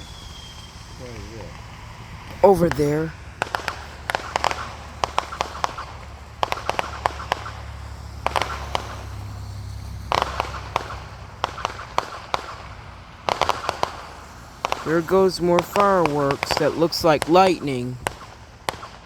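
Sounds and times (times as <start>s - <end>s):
fireworks popping and crackling: 0.0s - 19.0s
low steady rumble: 0.0s - 19.0s.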